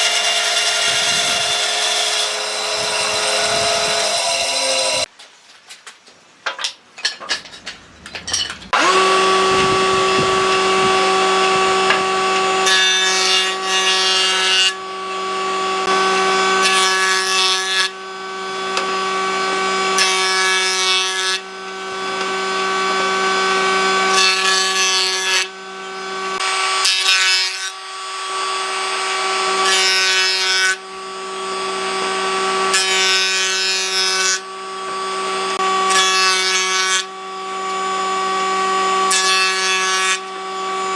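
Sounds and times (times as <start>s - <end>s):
power tool cutting hardwood: 0.0s - 5.1s, 8.7s - 40.9s.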